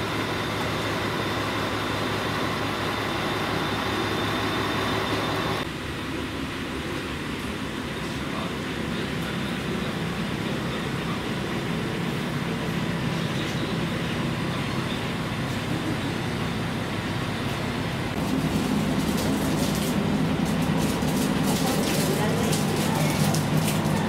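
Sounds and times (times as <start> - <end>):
diesel railcar engine humming: 0.0 - 24.0.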